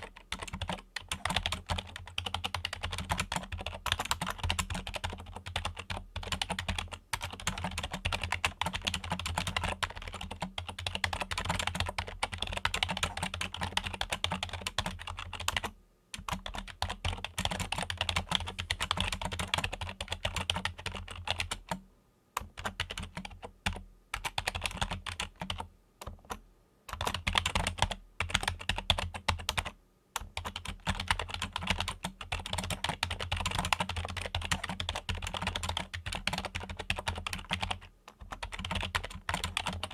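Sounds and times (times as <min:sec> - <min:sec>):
keyboard typing: 0:00.0 - 0:21.8, 0:22.4 - 0:39.9.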